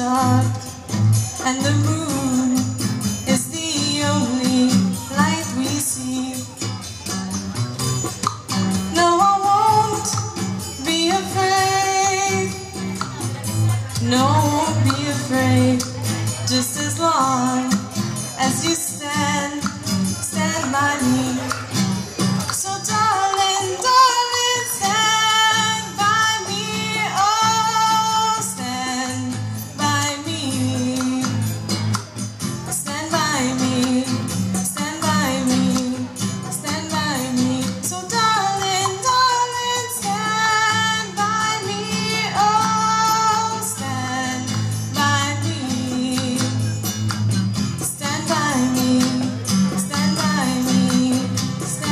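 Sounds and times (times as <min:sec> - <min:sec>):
woman singing: 0:00.0 - 0:06.8, 0:08.8 - 0:21.8, 0:22.4 - 0:31.6, 0:32.6 - 0:46.9, 0:47.6 - 0:51.9
guitar: 0:00.0 - 0:51.9.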